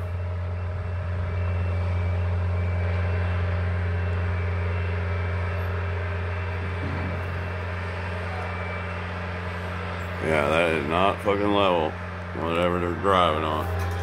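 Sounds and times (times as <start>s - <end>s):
engine droning steadily: 0.0s - 14.0s.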